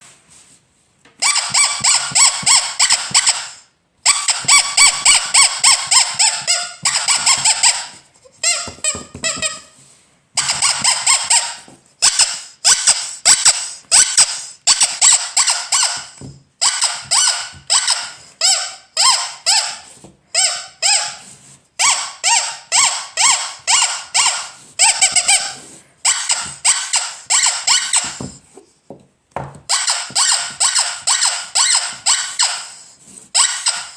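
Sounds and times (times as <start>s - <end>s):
rubber squeaky toy squeaking: 1.2s - 28.5s, 29.7s - 33.9s.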